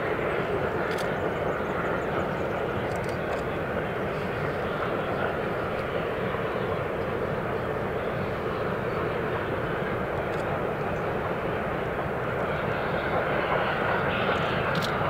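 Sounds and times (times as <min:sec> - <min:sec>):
distant steam locomotives roaring: 0:00.0 - 0:15.0.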